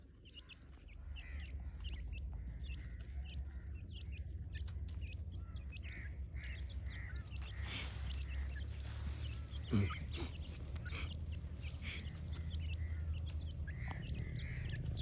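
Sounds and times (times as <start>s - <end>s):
chicks chirping: 0.0s - 15.0s
low steady rumble: 0.0s - 15.0s.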